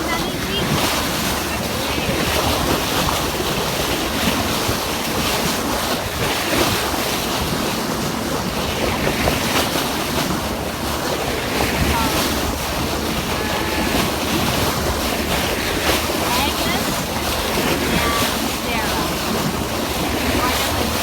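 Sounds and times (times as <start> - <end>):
ocean waves: 0.0 - 21.0
wind buffeting microphone: 0.0 - 21.0.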